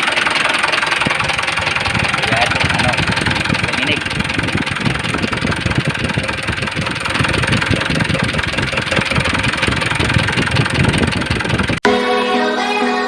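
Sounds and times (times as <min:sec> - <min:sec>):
diesel engine idling with knocking: 0:00.0 - 0:11.8.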